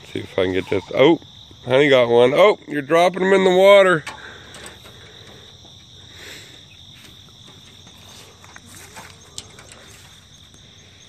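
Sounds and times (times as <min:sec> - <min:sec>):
crickets trilling: 0:00.0 - 0:11.0
pulsing insect chirp: 0:00.0 - 0:11.0.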